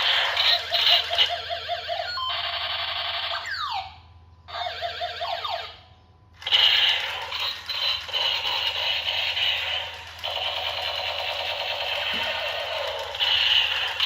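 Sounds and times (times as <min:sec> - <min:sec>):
toy gun electronic sound effects: 0:00.0 - 0:05.8, 0:06.4 - 0:14.0.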